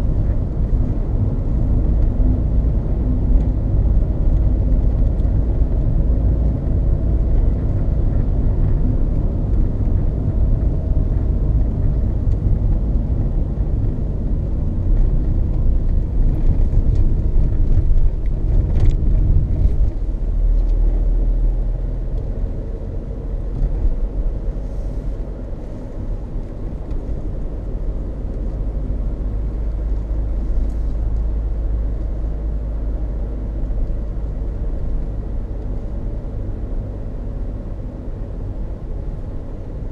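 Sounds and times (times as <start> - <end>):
tyre road noise rumble: 0.0 - 39.9.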